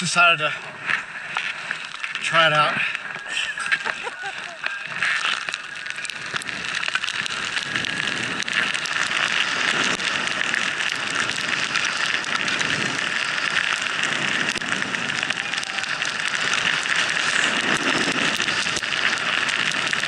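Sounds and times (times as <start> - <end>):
skis hissing through powder snow: 0.0 - 20.0.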